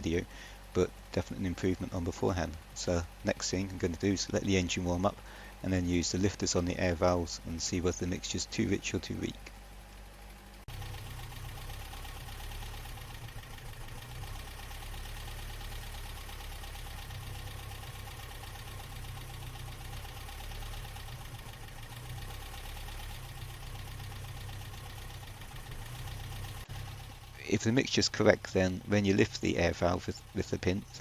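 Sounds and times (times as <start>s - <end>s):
car engine idling lumpily: 0.0s - 31.0s.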